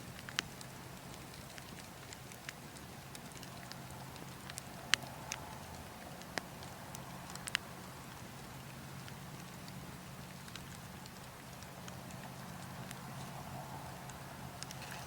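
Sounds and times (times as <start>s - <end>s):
burning logs crackling: 0.0s - 15.0s.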